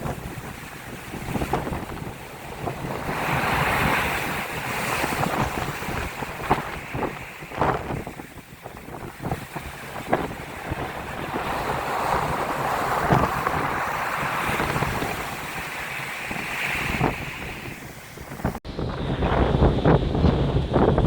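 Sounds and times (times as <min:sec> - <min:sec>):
waves breaking on a beach: 0:00.0 - 0:18.6
wind buffeting the microphone: 0:00.0 - 0:21.0.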